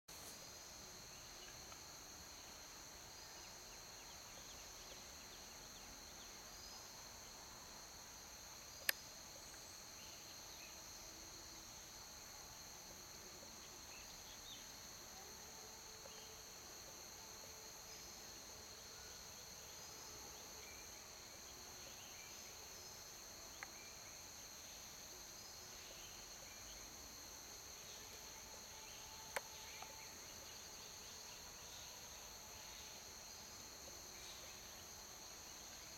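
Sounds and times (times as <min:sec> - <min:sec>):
insects droning: 0:00.1 - 0:35.9.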